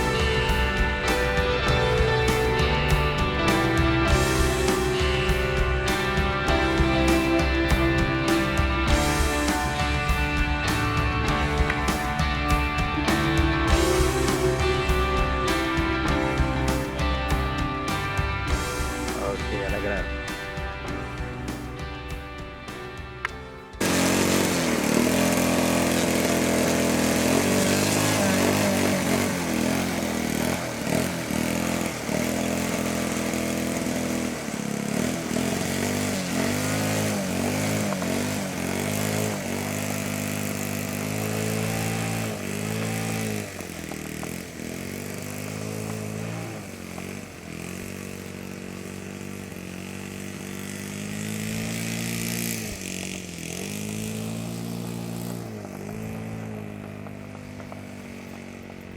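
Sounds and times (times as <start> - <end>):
model plane engine running: 0.0 - 17.2, 23.8 - 58.9.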